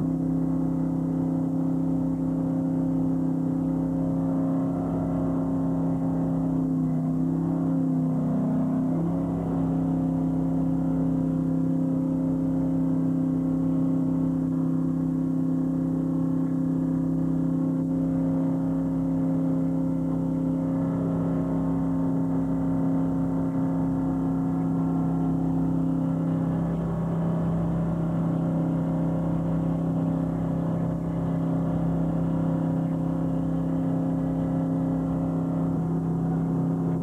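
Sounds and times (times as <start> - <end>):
boat engine droning: 0.0 - 37.0.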